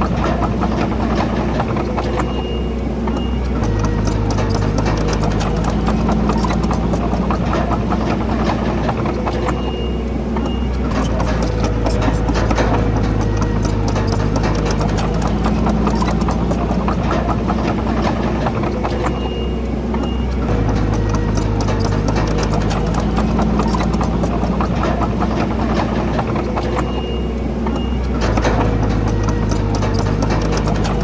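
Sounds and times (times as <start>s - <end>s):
bulldozer diesel engine droning: 0.0s - 31.0s
rattle of clicks and knocks: 0.0s - 31.0s.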